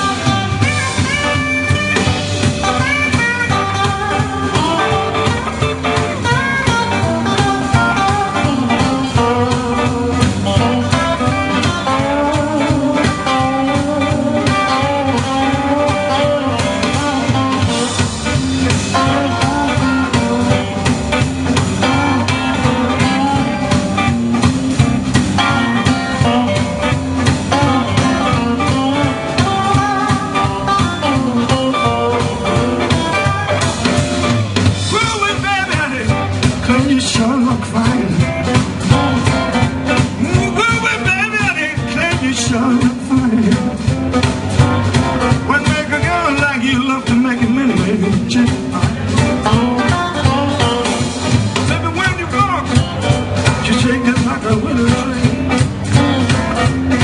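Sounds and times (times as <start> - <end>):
lead guitar bending notes: 0.0 - 57.0
live blues band playing: 0.0 - 57.0.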